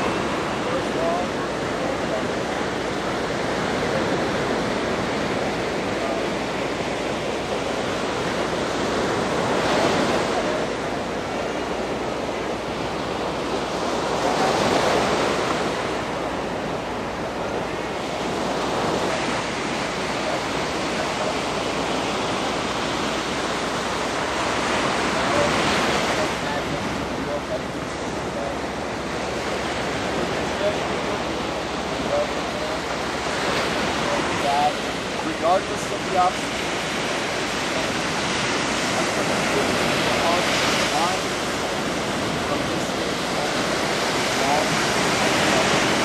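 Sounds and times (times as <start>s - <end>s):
waves breaking on a beach: 0.0s - 46.0s.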